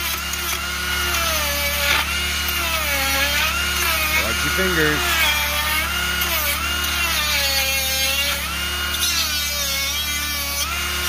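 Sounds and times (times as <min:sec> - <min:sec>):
die grinder grinding wood: 0:00.0 - 0:11.0.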